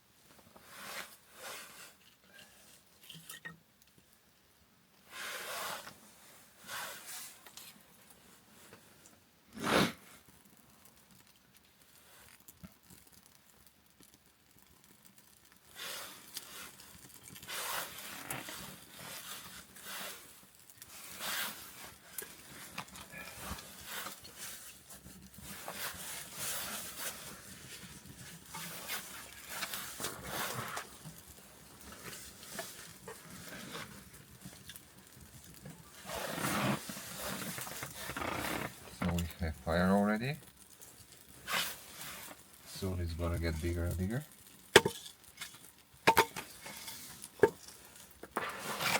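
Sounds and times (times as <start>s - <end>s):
fire crackling: 0.1s - 48.9s.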